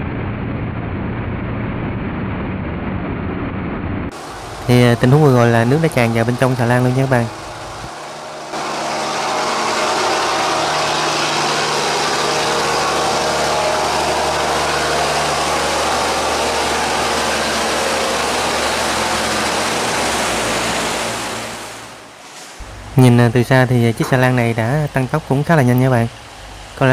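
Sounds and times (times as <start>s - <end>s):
boat engine humming: 4.1s - 26.9s
churning water rushing: 4.1s - 26.9s.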